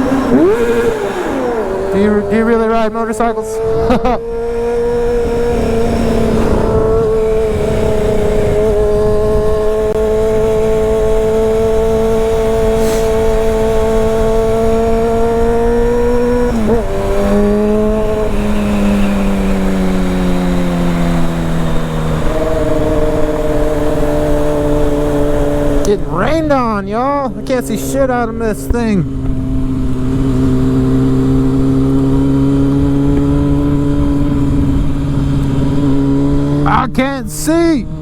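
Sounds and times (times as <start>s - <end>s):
wind rumble: 0.0s - 36.7s
motorcycle engine at high revs: 0.0s - 38.0s.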